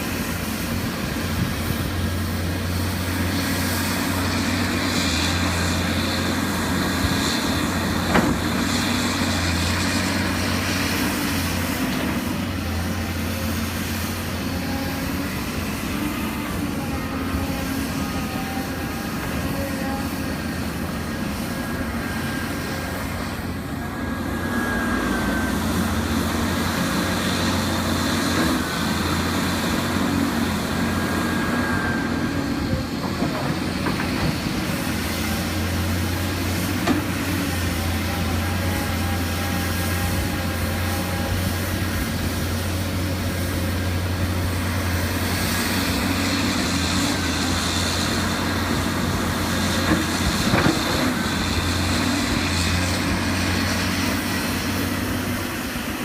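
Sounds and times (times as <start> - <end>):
diesel engine under load: 0.0 - 56.0
hydraulic whine: 0.0 - 56.0.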